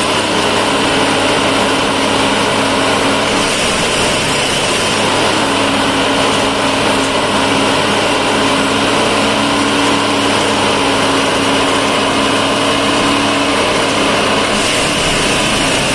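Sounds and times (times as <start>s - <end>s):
track machine engine din: 0.0s - 15.9s.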